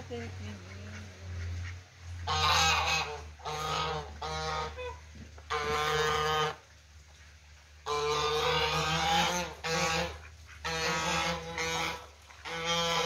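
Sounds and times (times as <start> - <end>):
geese honking: 0.1 - 6.6, 7.8 - 13.0.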